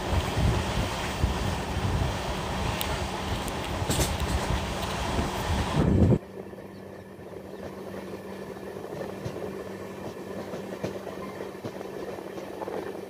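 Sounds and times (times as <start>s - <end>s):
train coach rumbling: 0.0s - 13.0s.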